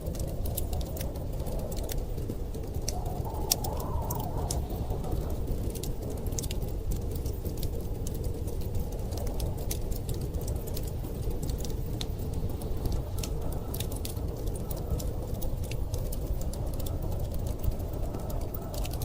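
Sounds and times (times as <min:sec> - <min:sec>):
storm wind rumble: 0:00.0 - 0:19.0
wood fire crackling: 0:00.0 - 0:19.0.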